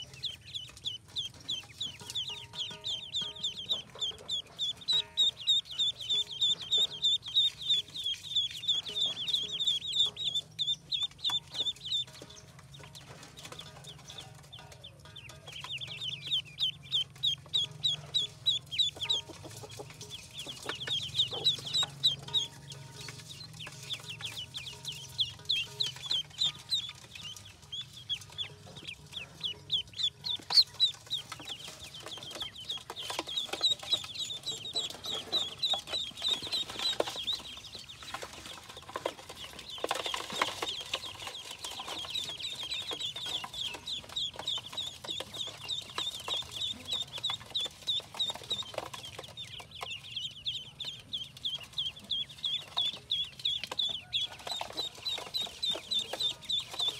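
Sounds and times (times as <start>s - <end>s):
ducklings peeping: 0.0s - 56.9s.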